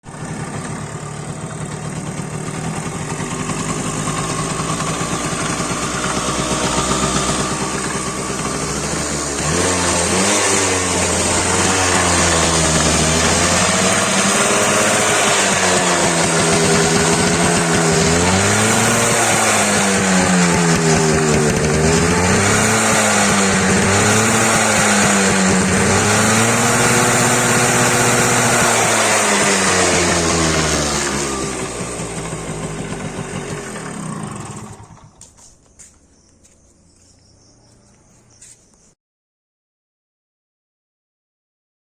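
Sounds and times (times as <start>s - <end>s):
two-stroke motorcycle engine revving: 0.0s - 38.6s.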